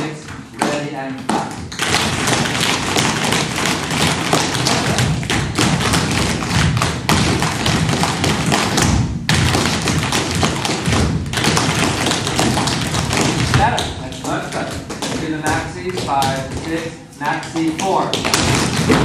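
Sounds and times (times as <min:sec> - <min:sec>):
dancers' shoes tapping on floor: 0:00.0 - 0:19.0.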